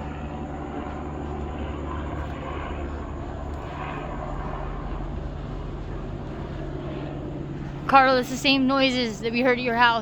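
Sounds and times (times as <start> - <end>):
aircraft droning overhead: 0.0 - 10.0.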